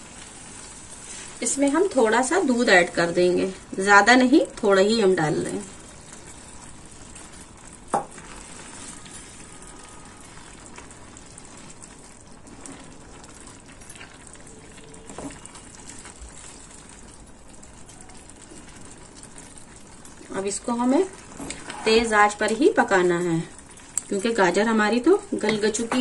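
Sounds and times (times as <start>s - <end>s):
food sizzling and bubbling in pan: 0.0s - 26.0s
wooden spatula stirring: 0.0s - 26.0s.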